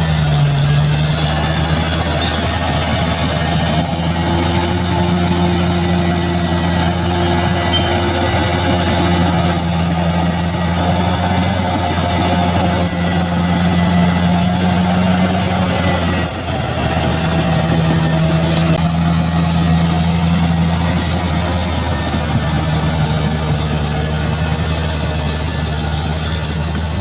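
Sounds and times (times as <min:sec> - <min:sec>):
bulldozer diesel engine running: 0:00.0 - 0:27.0
steel tracks squealing: 0:00.0 - 0:27.0.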